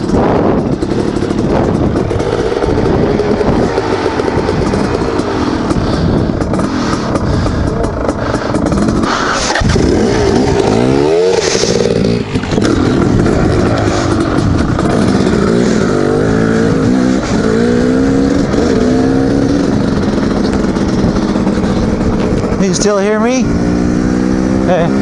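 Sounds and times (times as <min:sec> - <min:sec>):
dirt bike engine running hard: 0:00.0 - 0:25.0.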